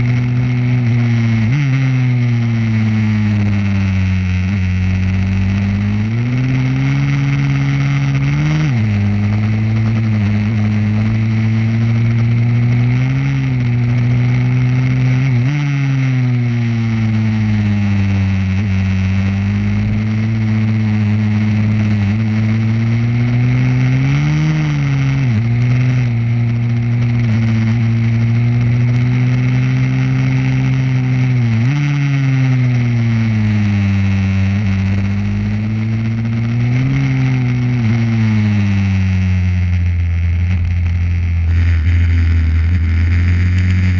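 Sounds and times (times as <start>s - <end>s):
pit bike engine accelerating: 0.0s - 43.9s.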